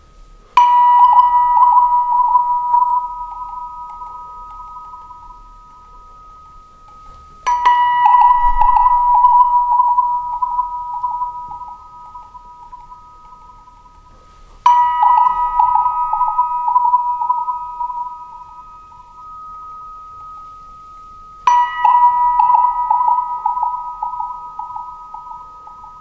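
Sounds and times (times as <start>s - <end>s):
steady high tones ringing: 0.0s - 26.0s.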